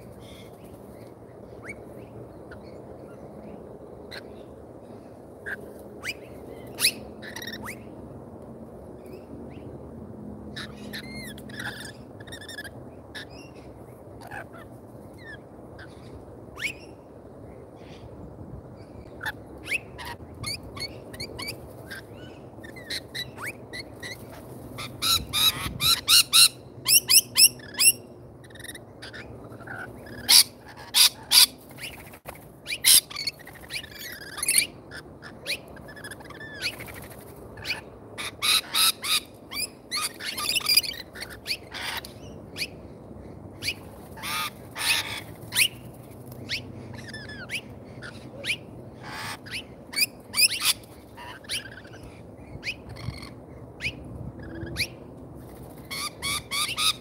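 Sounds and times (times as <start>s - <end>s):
lorikeets screeching and chattering: 5.4s - 7.9s, 10.5s - 17.0s, 19.0s - 55.0s, 55.8s - 57.0s.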